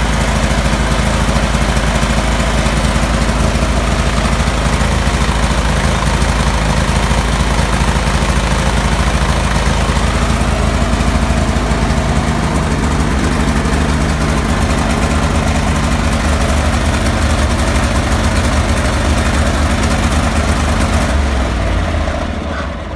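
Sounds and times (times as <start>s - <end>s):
lawn tractor engine idling roughly: 0.0s - 22.9s.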